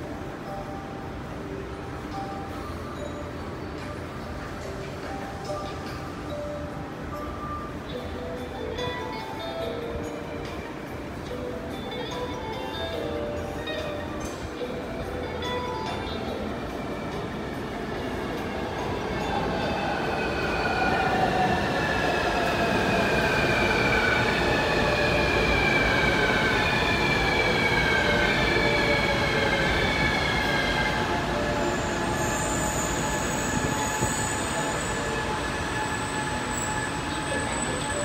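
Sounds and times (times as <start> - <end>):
train rolling noise: 0.0 - 38.0.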